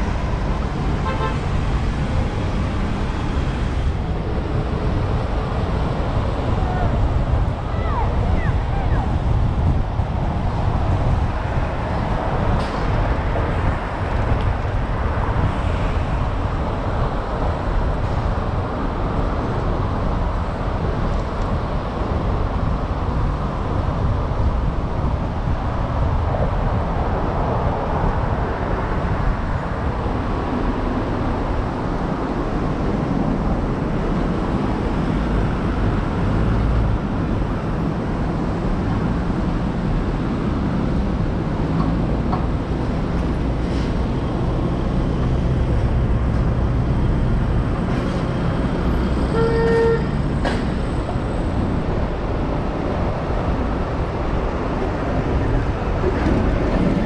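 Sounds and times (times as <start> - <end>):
car tyres and engine rumble: 0.0 - 57.0
surrounding traffic: 0.0 - 57.0.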